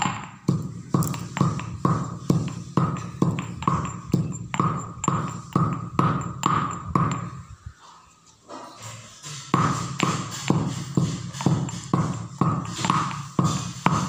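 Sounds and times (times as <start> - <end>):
stone pestle pounding in mortar: 0.0 - 7.5, 9.2 - 14.0.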